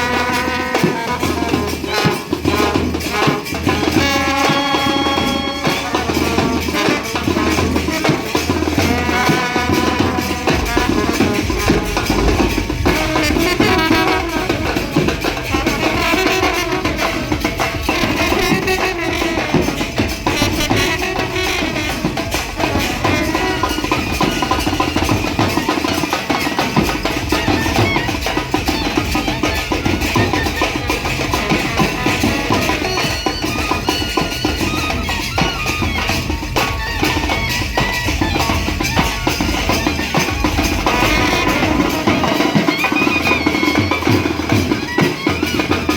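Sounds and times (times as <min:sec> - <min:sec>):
brass band playing: 0:00.0 - 0:45.9
steady drumming: 0:00.0 - 0:45.9.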